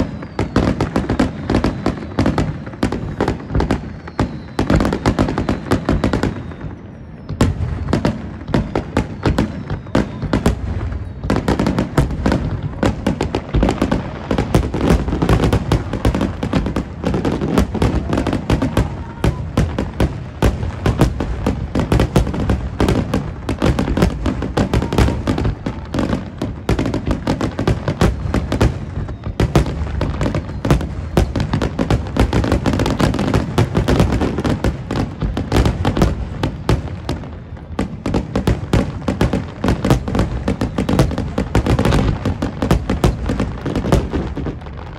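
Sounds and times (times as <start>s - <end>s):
fireworks bursting: 0.0s - 44.9s.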